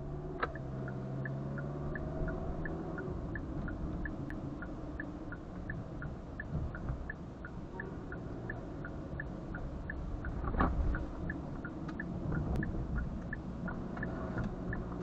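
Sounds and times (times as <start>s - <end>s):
engine and road noise in car: 0.0s - 15.0s
turn signal ticking: 0.0s - 15.0s.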